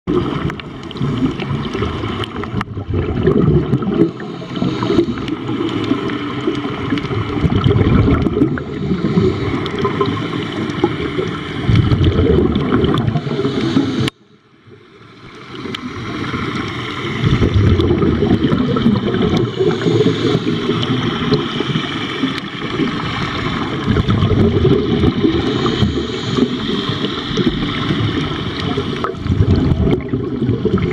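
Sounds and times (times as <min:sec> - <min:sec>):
muffled underwater bubbling: 0:00.1 - 0:30.9.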